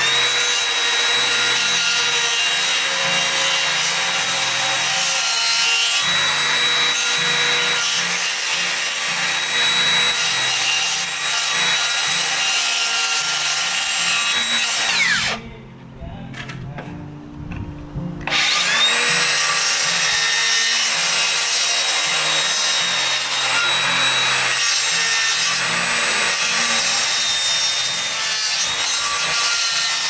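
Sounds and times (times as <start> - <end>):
circular saw cutting wood: 0.0 - 15.5, 18.2 - 30.0.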